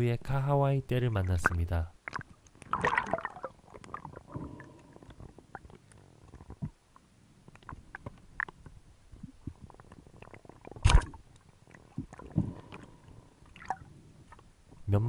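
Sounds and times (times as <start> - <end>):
underwater clicking and crackling: 1.2 - 14.8.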